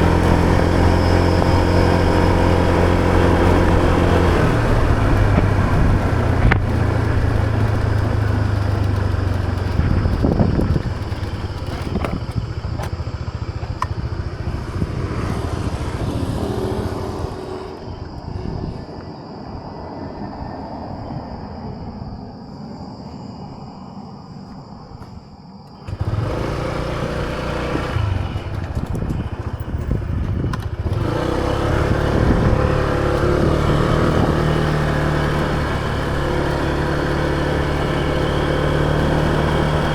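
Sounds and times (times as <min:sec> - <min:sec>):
scooter engine running: 0:00.0 - 0:18.8, 0:25.7 - 0:39.9
wind and road noise: 0:00.0 - 0:39.9.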